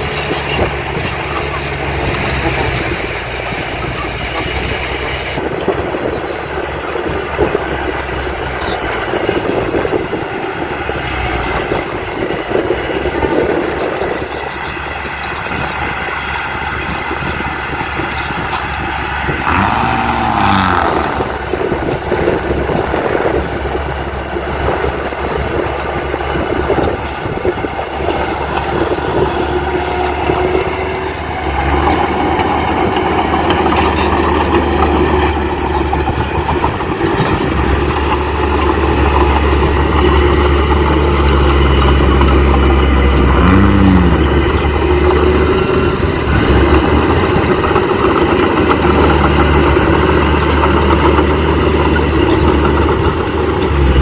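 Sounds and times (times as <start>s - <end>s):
heavy machinery diesel engines running: 0.0s - 54.0s.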